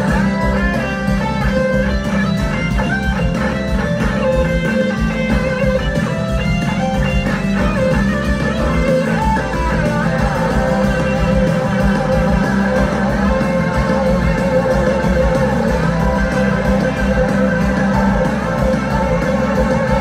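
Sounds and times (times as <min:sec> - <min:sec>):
bass and drums: 0:00.0 - 0:20.0
electric guitars playing: 0:00.0 - 0:20.0.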